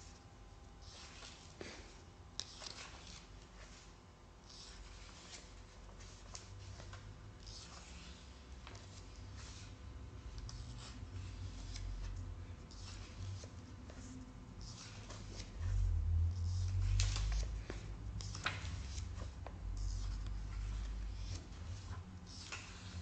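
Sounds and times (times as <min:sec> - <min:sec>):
book pages rustling: 0:00.8 - 0:03.9, 0:04.5 - 0:09.7, 0:10.4 - 0:23.0.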